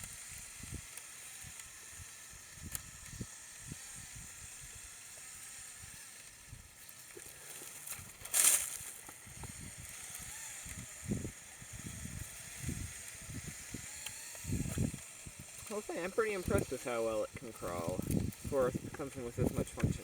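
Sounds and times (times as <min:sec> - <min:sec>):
toy motors and plastic gears running: 0:00.0 - 0:20.0.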